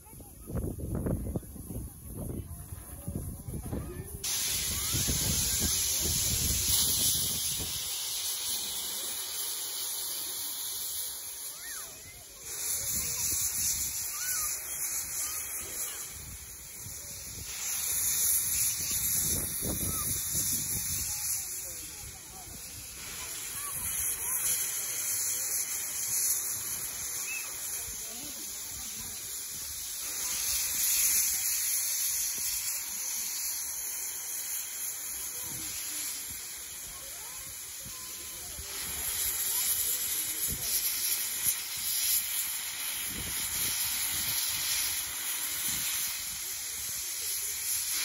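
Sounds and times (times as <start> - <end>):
steam locomotive venting steam: 0.0 - 48.0.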